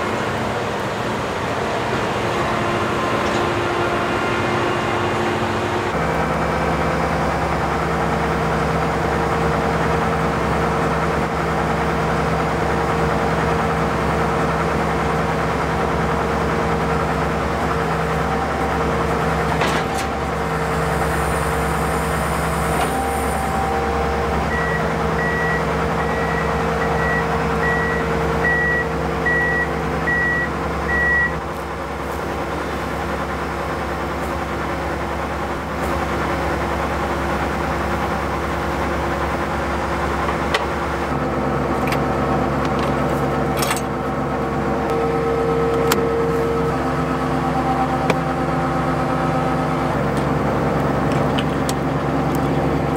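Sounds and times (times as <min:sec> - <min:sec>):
combine harvester engine hum: 0:00.0 - 0:52.9.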